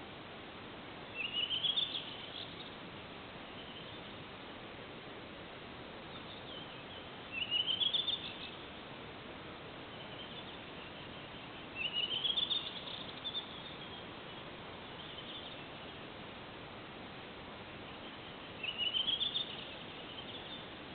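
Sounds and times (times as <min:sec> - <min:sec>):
background hiss: 0:00.0 - 0:20.9
songbird singing: 0:01.0 - 0:20.9.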